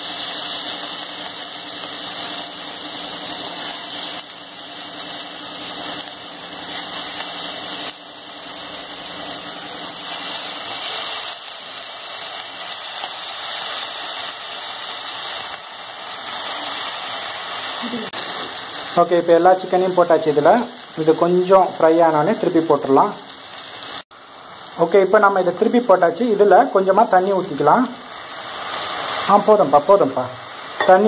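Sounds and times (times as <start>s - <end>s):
chicken sizzling in hot oil: 0.0s - 31.0s.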